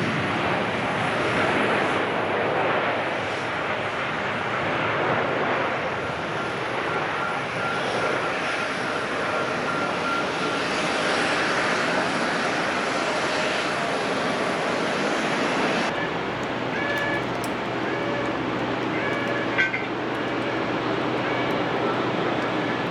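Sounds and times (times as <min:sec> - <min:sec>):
jet engines running: 0:00.0 - 0:22.9.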